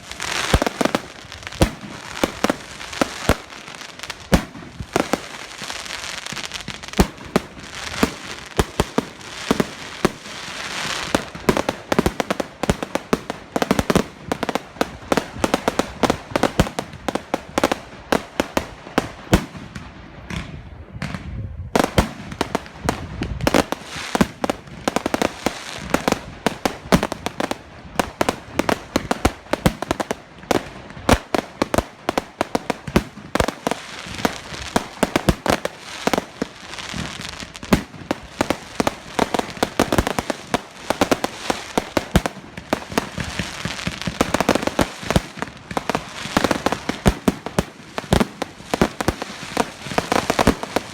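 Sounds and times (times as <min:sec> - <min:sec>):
fireworks bangs and crackles: 0:00.0 - 0:50.9.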